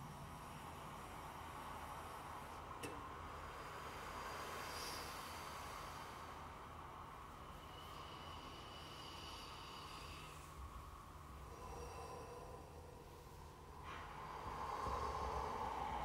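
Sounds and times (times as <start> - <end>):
breathy airy sound: 0.0 - 16.0.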